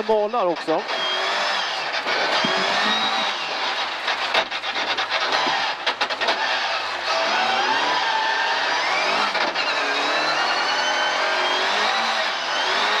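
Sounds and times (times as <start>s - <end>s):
car engine: 0.0s - 13.0s
road noise: 0.0s - 13.0s.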